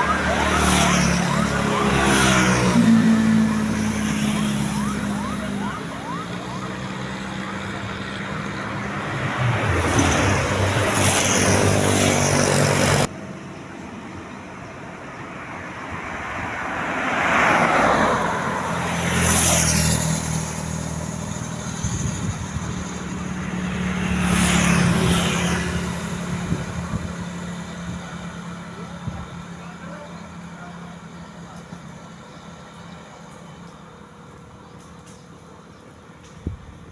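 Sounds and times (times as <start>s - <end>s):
vehicles passing: 0.0s - 36.9s.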